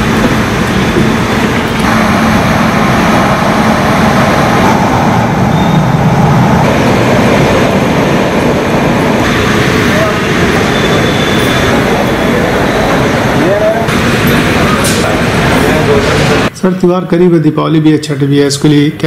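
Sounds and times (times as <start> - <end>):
train rumble and hiss: 0.0 - 16.6.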